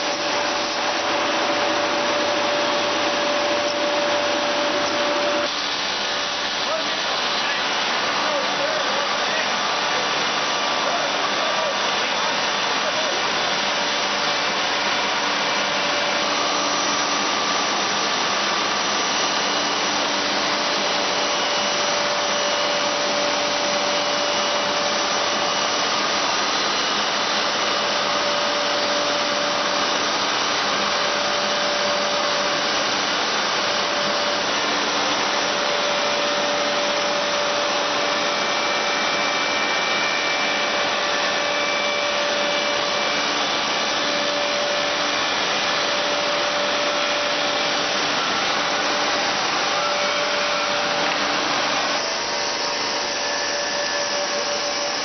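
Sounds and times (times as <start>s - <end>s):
woodworking machine whirring: 0.0s - 55.0s.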